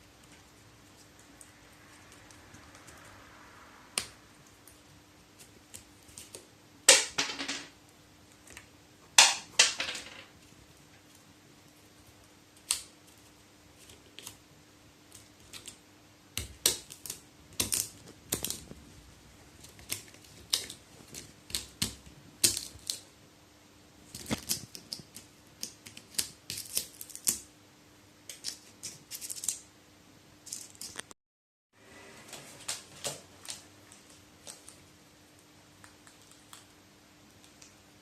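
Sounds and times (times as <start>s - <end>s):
faint steady hum: 0.0s - 31.1s, 31.8s - 38.0s.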